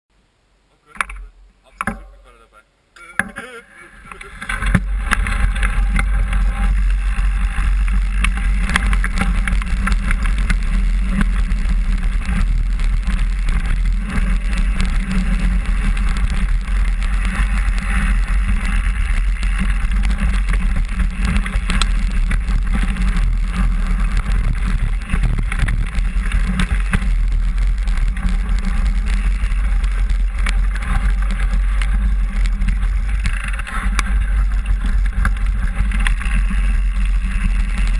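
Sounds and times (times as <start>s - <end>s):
tyres rumbling on dirt: 3.2s - 37.9s
bike rattling and clicking: 4.0s - 37.9s
wind buffeting microphone: 4.0s - 37.9s.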